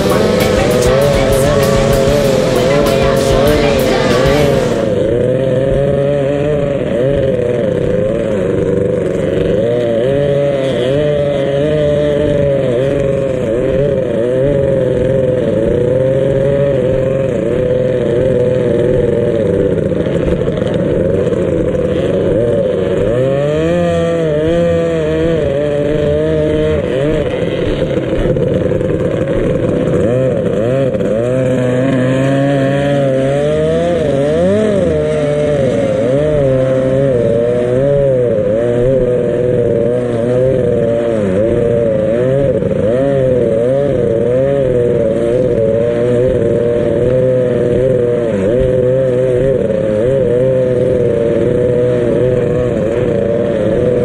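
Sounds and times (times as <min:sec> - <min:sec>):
powerboat engine running hard: 0:00.0 - 0:54.0.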